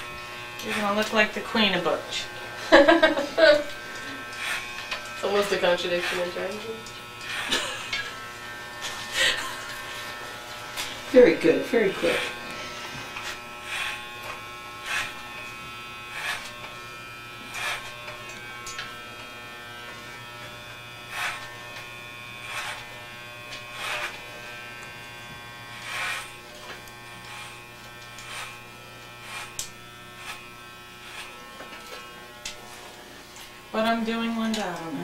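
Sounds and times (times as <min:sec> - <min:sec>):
clipper blades rasping through hair: 0:00.0 - 0:35.0
electric hair clippers buzzing: 0:00.0 - 0:35.0.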